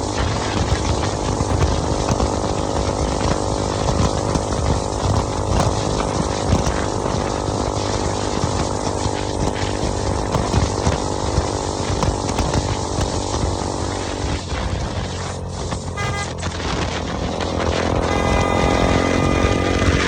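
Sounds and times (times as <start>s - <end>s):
motorcycle engine running: 0.0s - 20.0s
wind rumble on microphone: 0.0s - 20.0s.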